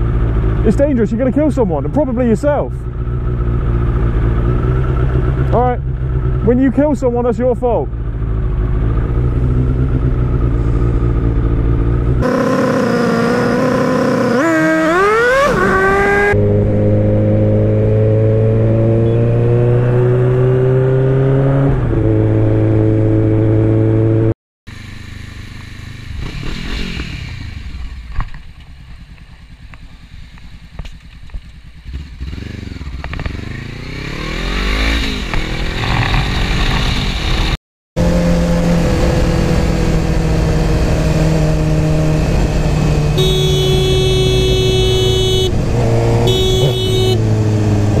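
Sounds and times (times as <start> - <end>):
motorcycle engine revving: 0.0 - 48.0
vehicles passing: 0.0 - 48.0.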